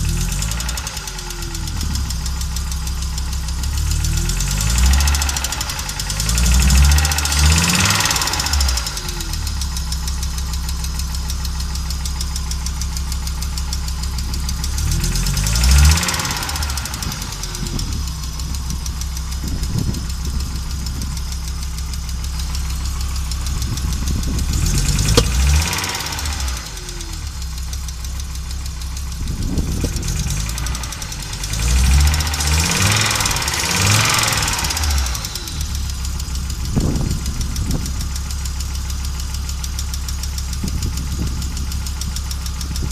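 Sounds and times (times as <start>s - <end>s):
car engine running roughly: 0.0s - 42.9s
engine pops: 0.0s - 42.9s.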